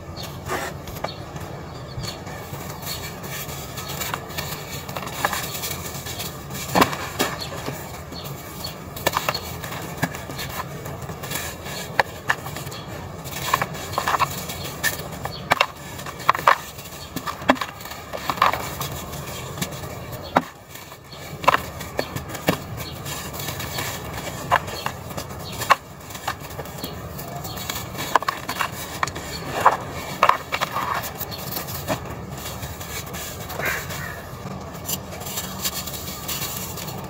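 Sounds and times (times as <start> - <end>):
dirt chunks crunching by hand: 6.6 - 37.0.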